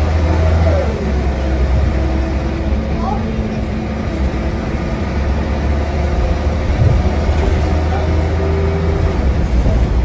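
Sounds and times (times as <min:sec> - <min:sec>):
bus diesel engine rumble: 0:00.0 - 0:10.0.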